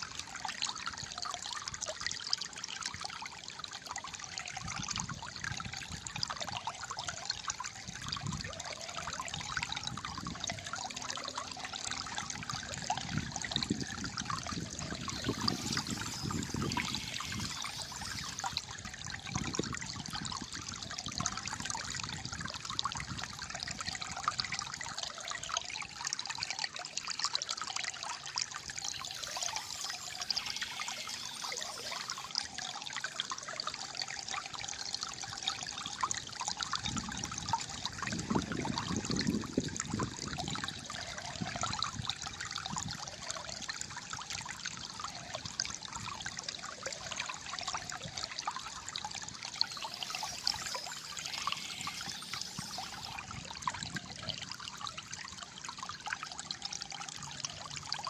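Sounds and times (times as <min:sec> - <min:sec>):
shallow water trickling and gurgling: 0:00.0 - 0:58.0.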